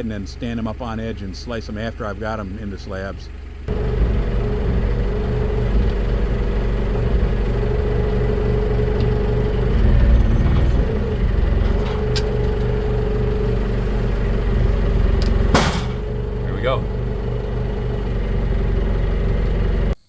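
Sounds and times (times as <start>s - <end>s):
sawmill engine running: 0.0s - 20.0s
steady whine: 3.7s - 20.0s.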